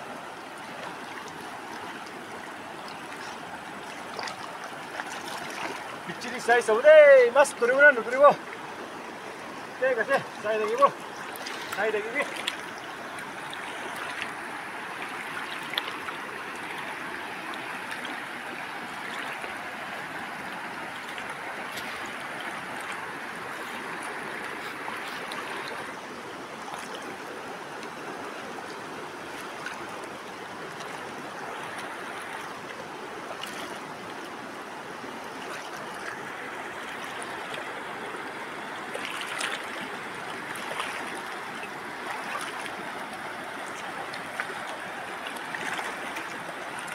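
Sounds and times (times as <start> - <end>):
river rushing over stones: 0.0 - 46.9.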